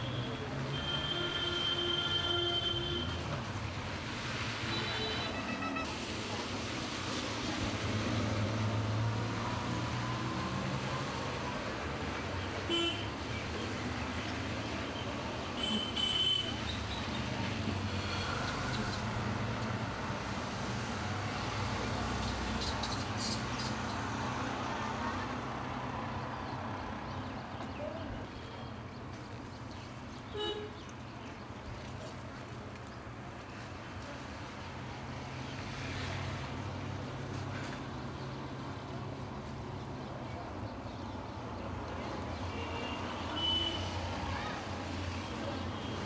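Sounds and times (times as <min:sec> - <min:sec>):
street traffic: 0:00.0 - 0:46.0.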